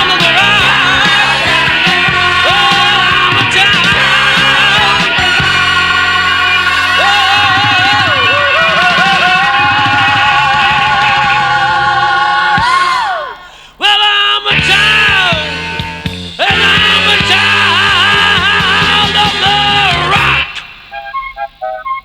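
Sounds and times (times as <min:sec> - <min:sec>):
rock band playing: 0:00.0 - 0:13.0, 0:14.5 - 0:22.0.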